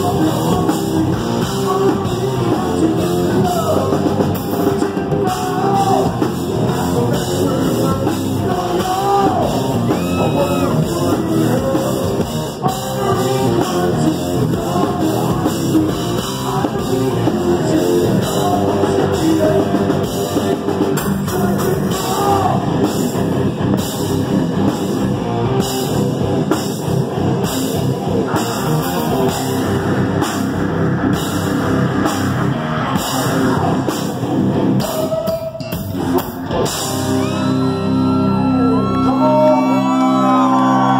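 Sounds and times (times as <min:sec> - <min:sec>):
heavy rock band playing: 0:00.0 - 0:40.9.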